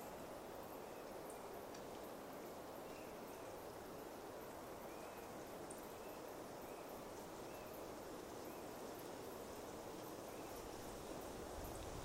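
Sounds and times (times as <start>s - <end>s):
steady soft forest hiss: 0.0s - 12.0s.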